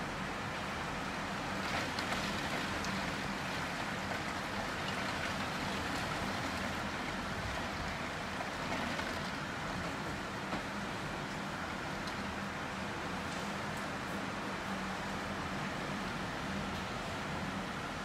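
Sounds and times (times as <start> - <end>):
heavy rain behind window: 0.0 - 18.0.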